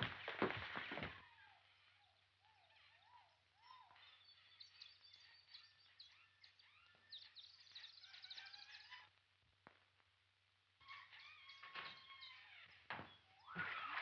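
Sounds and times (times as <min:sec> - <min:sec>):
bird calls: 0:00.0 - 0:09.2, 0:10.8 - 0:14.0.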